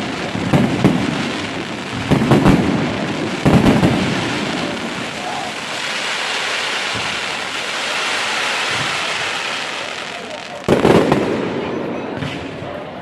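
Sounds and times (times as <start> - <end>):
dense firework crackle: 0.0 - 13.0.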